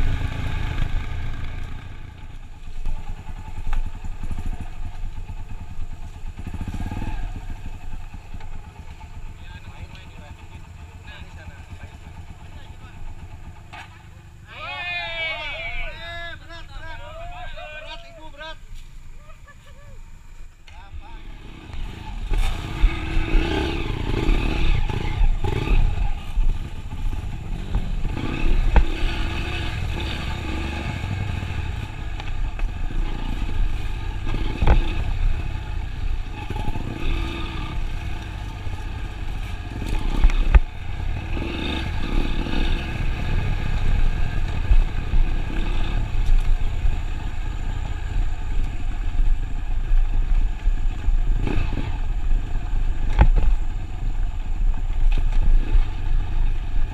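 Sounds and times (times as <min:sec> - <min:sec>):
vehicle engine rumbling: 0:00.0 - 0:56.9.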